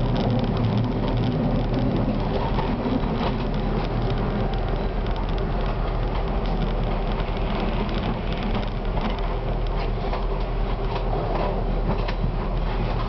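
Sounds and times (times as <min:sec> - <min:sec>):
small clicks and crackles: 0:00.0 - 0:13.0
tram wheels rumbling on rail: 0:00.0 - 0:13.0.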